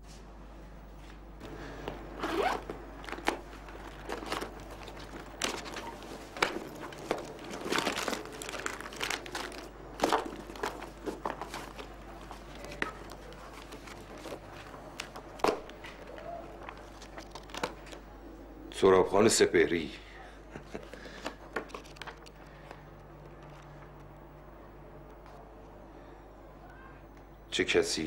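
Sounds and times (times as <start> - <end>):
clothes and papers rustling: 0.0 - 18.7, 20.4 - 27.3
faint low hum: 0.0 - 28.0.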